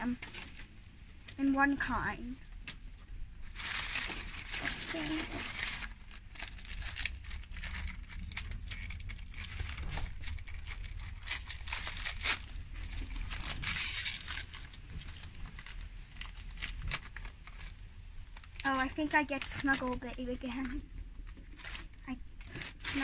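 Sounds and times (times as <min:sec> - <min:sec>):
foil wrapper crinkling and tearing: 0:03.4 - 0:23.0.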